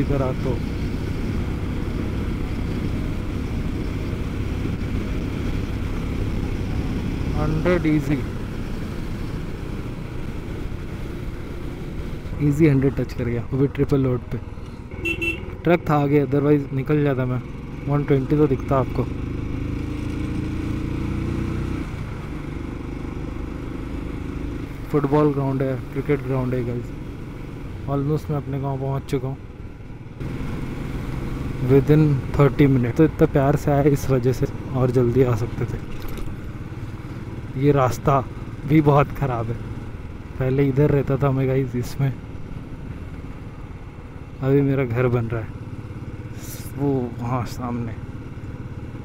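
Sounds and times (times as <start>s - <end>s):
motorcycle engine and road rumble: 0.0s - 49.0s.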